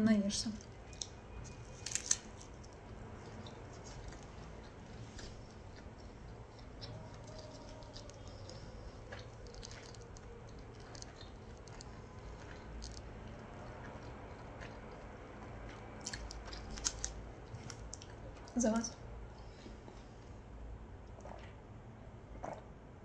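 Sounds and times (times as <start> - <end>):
close-up chewing: 0.5 - 20.4.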